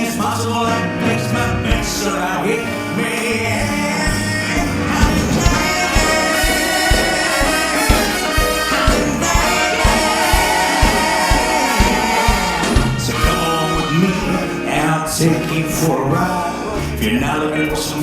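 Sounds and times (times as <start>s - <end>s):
swing band music with brass: 0.0s - 18.0s.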